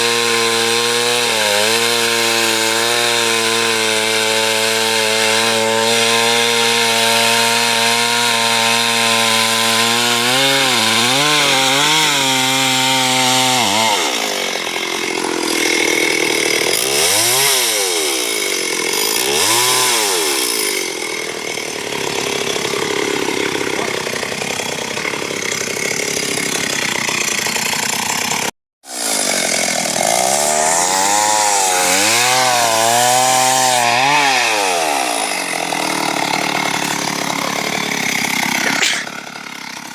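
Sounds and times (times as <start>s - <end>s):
chainsaw cutting tree: 0.0s - 39.9s.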